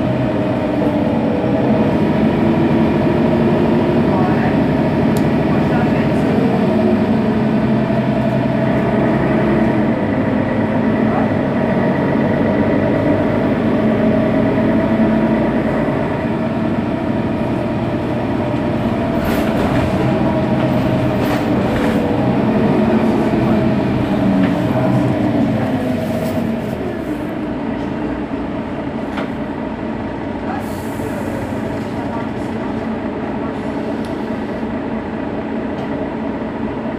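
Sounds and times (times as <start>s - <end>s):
bus diesel engine idling: 0.0s - 36.9s.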